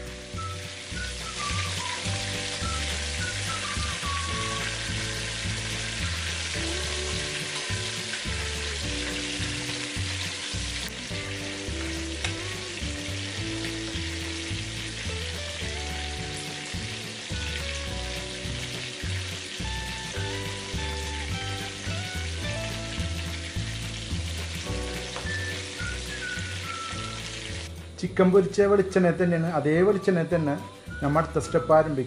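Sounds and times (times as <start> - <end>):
chicken frying in oil: 0.0 - 27.7
background music: 0.0 - 32.0.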